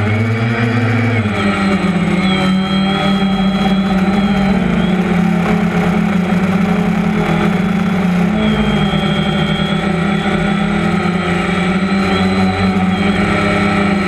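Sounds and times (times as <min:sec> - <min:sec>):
drone motors buzzing: 0:00.0 - 0:14.0.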